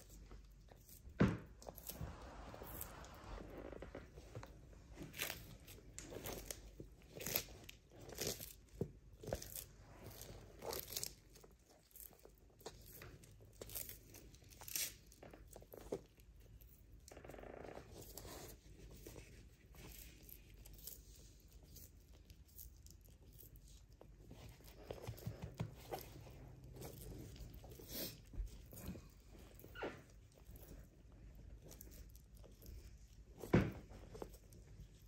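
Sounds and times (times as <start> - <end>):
tortoise crunching food: 0.0 - 35.0.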